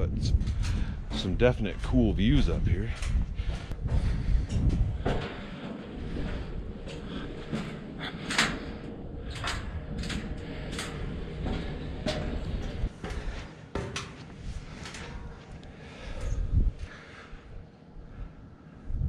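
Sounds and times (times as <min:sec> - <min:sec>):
low rumble: 0:00.0 - 0:19.0
footsteps on stairs: 0:00.3 - 0:17.1.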